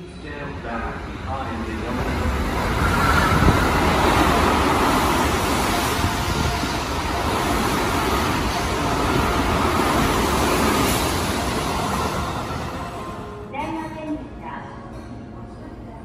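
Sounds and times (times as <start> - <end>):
electric train passing at speed: 0.0 - 13.6.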